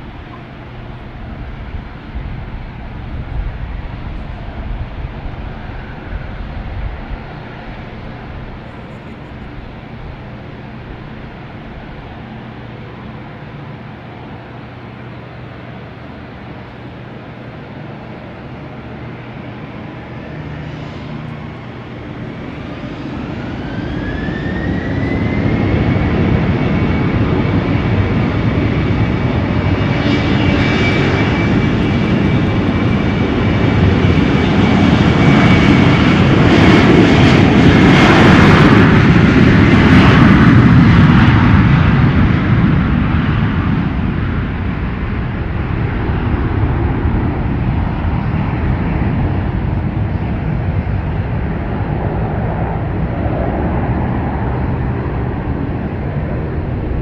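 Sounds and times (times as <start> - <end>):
airliner engines whining: 0.0 - 57.0.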